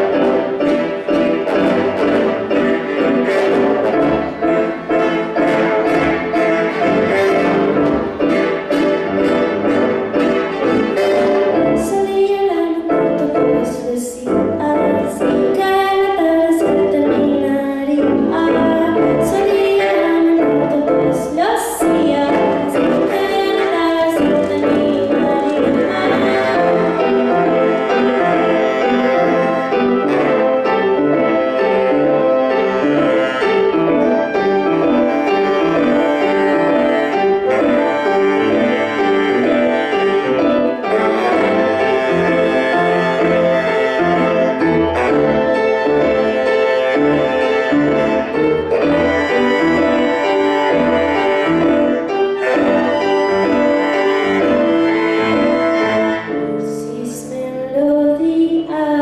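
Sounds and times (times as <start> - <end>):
bowed strings: 0.0 - 57.8
piano: 0.0 - 59.0.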